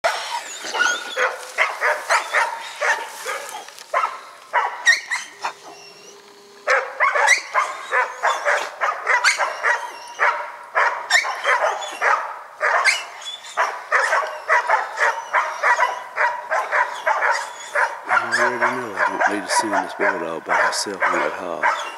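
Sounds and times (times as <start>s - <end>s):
dog barking rapidly: 0.0s - 5.6s, 6.7s - 21.9s.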